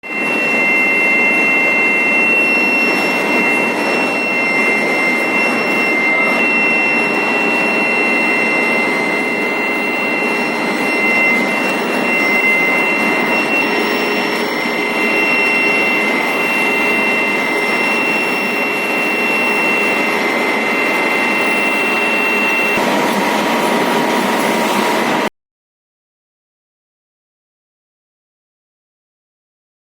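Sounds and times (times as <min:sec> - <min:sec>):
high-pitched machine whine: 0:00.0 - 0:25.3
loud machine noise: 0:00.0 - 0:25.3.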